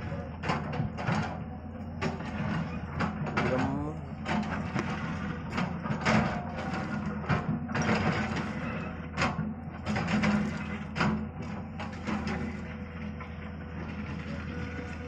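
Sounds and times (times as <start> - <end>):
bucket scraping and dumping earth: 0.0 - 15.0
excavator engine humming: 0.0 - 15.0.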